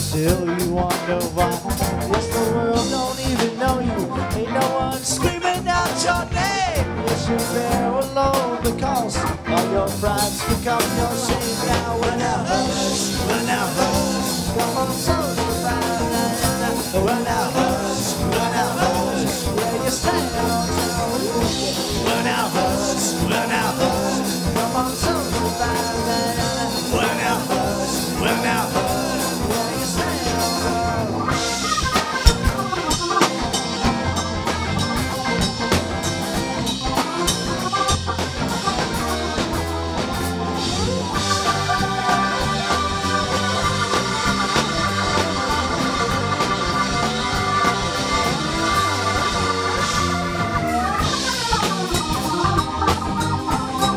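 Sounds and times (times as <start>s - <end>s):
lead electric guitar: 0.0s - 53.9s
live rock band playing: 0.0s - 53.9s.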